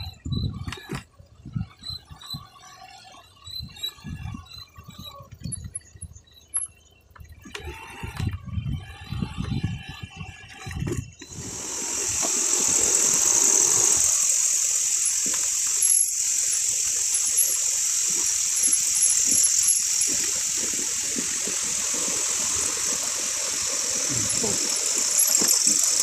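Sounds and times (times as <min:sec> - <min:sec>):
chorus of night insects: 0:00.0 - 0:08.2, 0:08.8 - 0:26.0.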